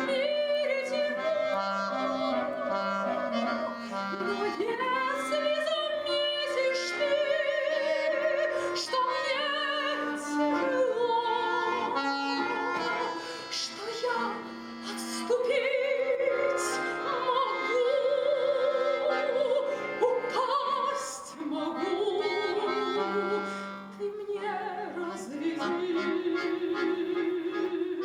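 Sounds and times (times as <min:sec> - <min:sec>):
instrumental accompaniment: 0:00.0 - 0:28.0
woman singing operatically: 0:00.0 - 0:28.0.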